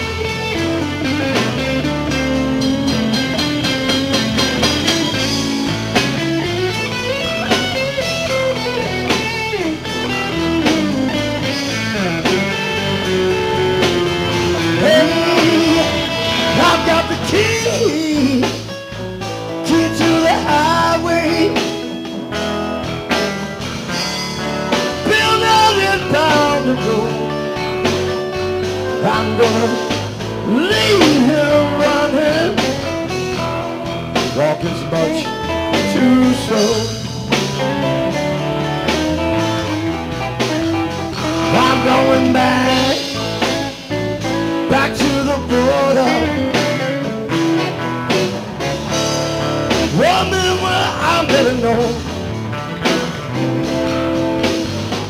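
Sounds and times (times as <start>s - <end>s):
blues-rock band playing: 0.0s - 55.0s
lead guitar bending notes: 0.0s - 55.0s.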